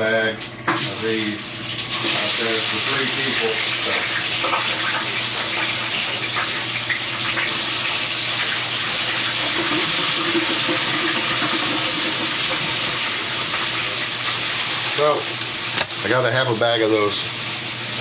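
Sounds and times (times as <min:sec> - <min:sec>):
fries sizzling in deep fryer: 0:00.7 - 0:18.0.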